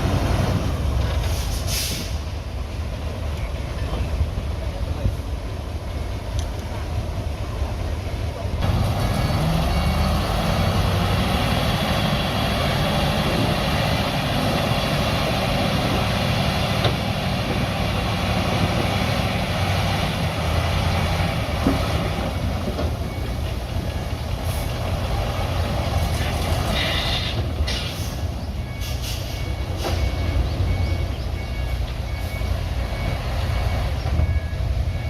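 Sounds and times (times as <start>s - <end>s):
heavy diesel engine under load: 0.0s - 35.0s.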